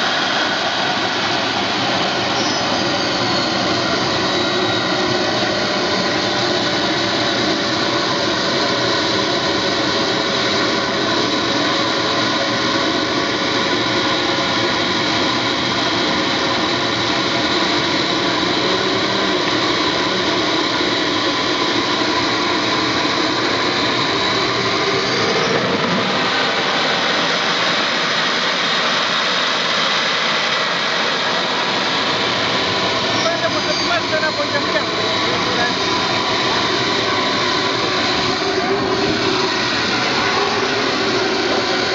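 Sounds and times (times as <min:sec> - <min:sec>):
model jet turbine whine: 0:00.0 - 0:41.9.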